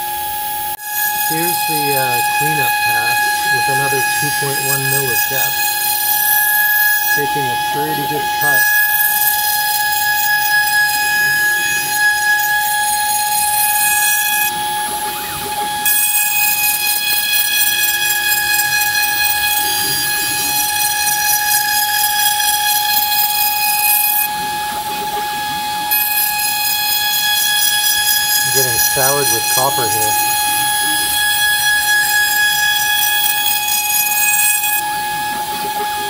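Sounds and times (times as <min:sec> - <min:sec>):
milling machine high-pitched whine: 0:00.0 - 0:36.0.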